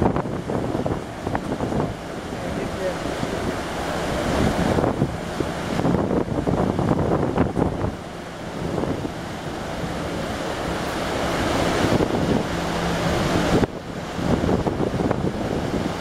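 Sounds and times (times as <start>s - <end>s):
low ship hum: 0.0s - 16.0s
wind buffeting microphone: 0.0s - 16.0s.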